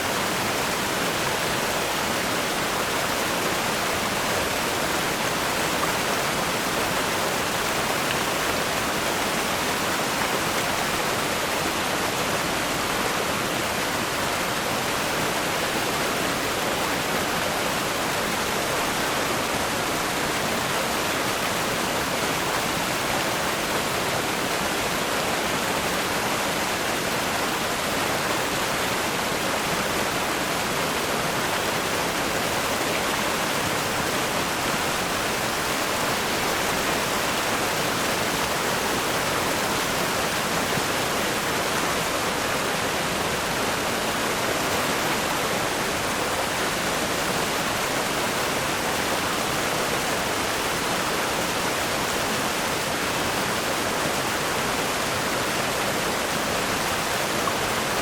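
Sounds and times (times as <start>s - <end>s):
river rapids rushing over rocks: 0.0s - 58.0s.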